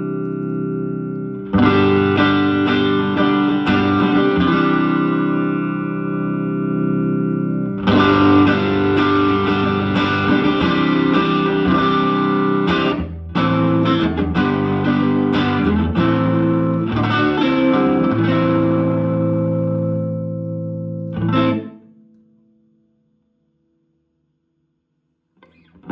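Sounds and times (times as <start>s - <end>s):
overdriven electric guitar chords: 0.0s - 22.6s, 25.4s - 25.9s.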